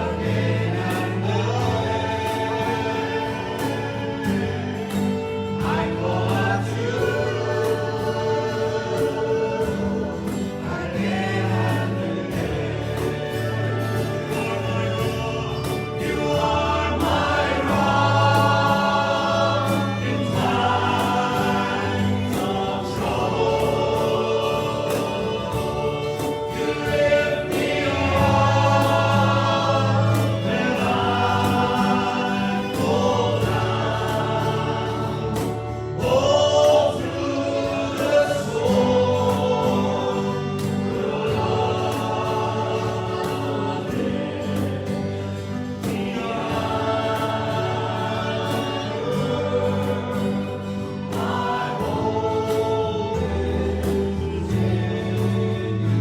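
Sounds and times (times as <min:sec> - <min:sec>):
band accompaniment: 0:00.0 - 0:56.0
congregation singing: 0:00.0 - 0:56.0.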